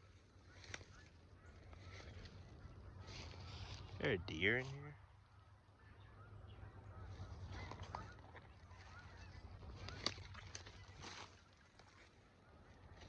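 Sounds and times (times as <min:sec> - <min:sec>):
distant geese honking: 0:00.0 - 0:13.0.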